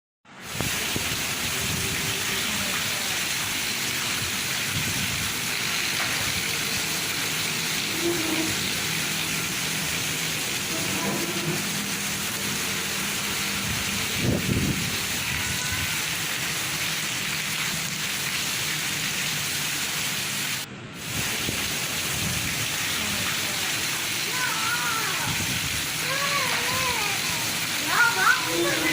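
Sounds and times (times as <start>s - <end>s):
heavy rainfall: 0.3s - 28.9s.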